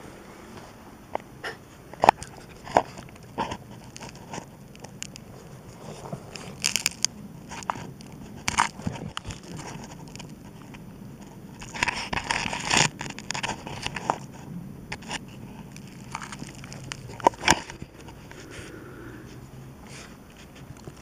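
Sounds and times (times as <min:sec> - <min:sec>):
dry soil and roots crunching: 0:01.7 - 0:21.0.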